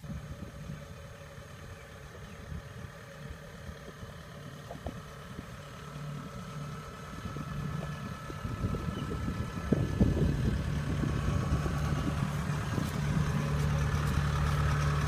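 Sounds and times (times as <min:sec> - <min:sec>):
combine harvester engine running: 0:00.0 - 0:15.0
steady machine whine: 0:00.0 - 0:15.0.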